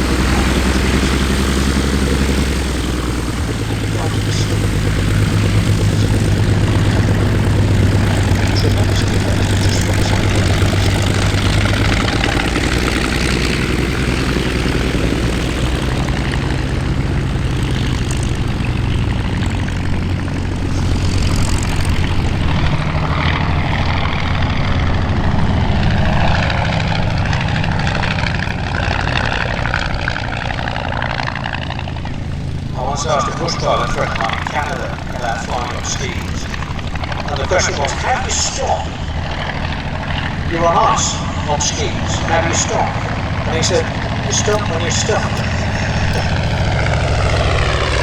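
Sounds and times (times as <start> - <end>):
propeller aircraft flying past: 0.0 - 48.0.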